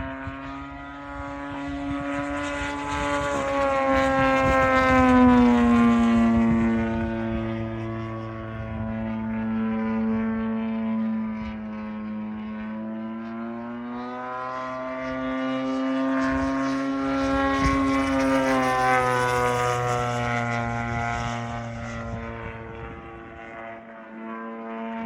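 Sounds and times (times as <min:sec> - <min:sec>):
propeller airplane passing overhead: 0:00.0 - 0:25.0.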